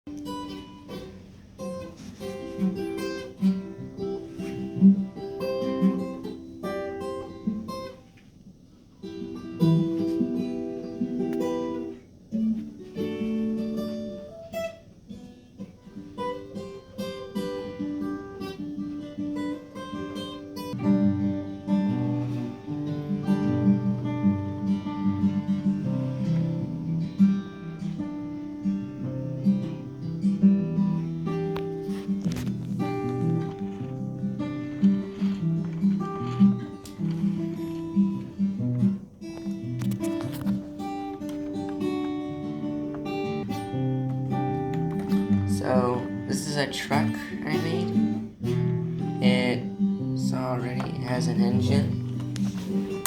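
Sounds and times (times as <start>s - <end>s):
acoustic guitar plucked and strummed: 0.0s - 53.0s.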